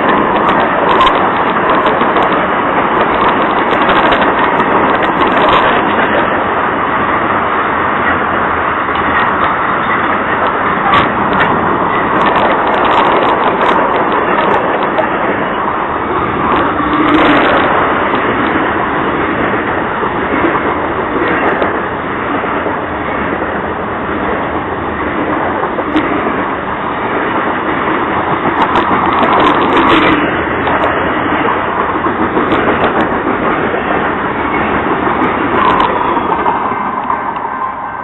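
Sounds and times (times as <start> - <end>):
sharp clicks and clanks: 0.0 - 23.6, 24.2 - 37.5
train wheels on rail: 0.0 - 38.0.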